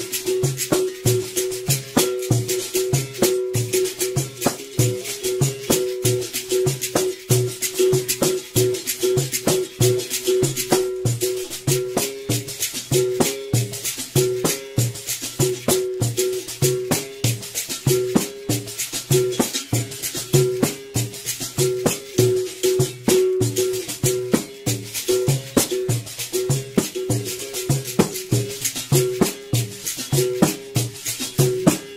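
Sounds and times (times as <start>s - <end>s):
basket rattle shaking: 0.0s - 31.9s
berimbau played rhythmically: 0.0s - 31.9s.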